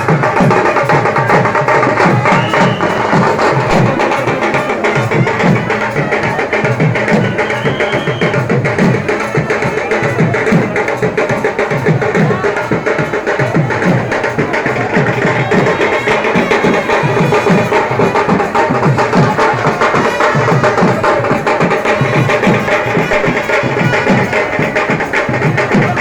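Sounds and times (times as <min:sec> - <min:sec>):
fast drumming: 0:00.0 - 0:26.0.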